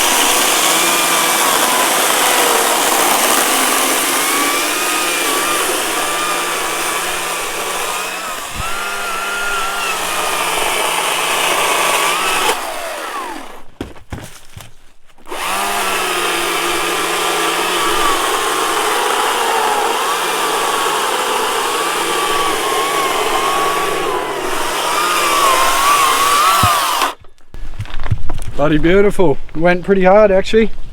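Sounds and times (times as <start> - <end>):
electric chainsaw cutting: 0.0 - 13.7, 15.3 - 27.2.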